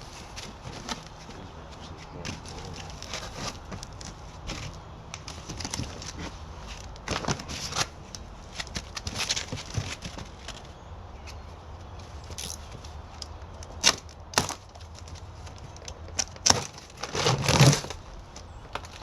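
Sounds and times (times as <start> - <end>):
packaging rustling and crinkling: 0.0 - 10.7, 12.0 - 19.0.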